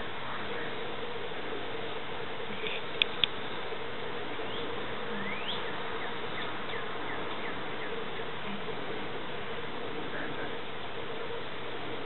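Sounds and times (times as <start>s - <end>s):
low hum: 0.0s - 12.0s
outdoor hiss: 0.0s - 12.0s.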